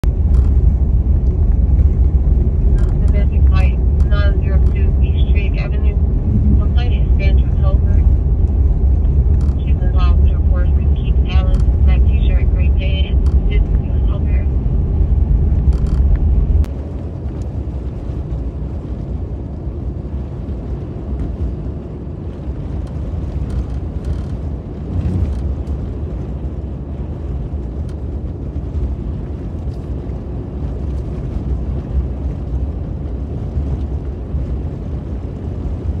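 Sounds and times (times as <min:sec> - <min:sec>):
vehicle engine and tyre rumble: 0:00.0 - 0:36.0.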